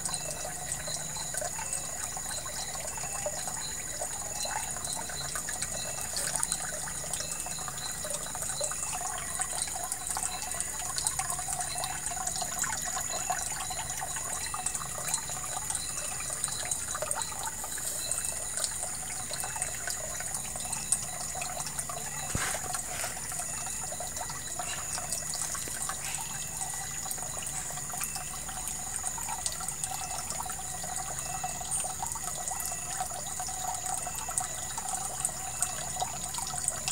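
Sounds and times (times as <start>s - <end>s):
small splashes and drips: 0.0s - 36.9s
water running and trickling: 0.0s - 36.9s.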